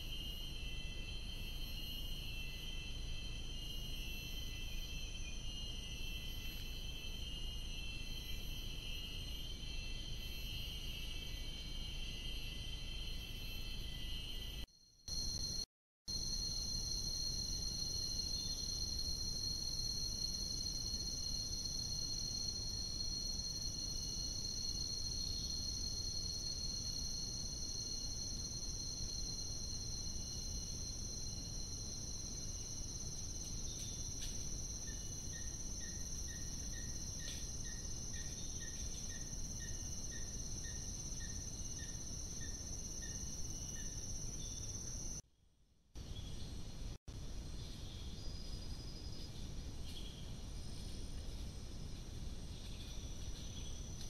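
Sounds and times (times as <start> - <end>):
insects droning: 0.0 - 45.2, 46.0 - 54.0.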